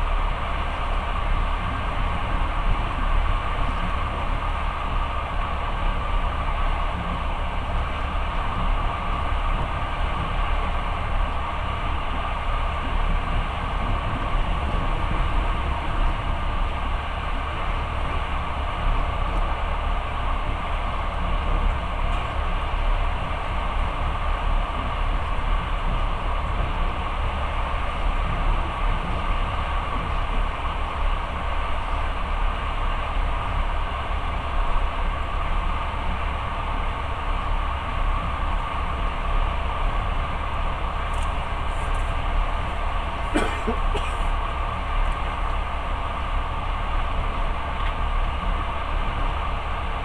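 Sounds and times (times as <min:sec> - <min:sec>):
train wheels on rails: 0:00.0 - 0:50.0.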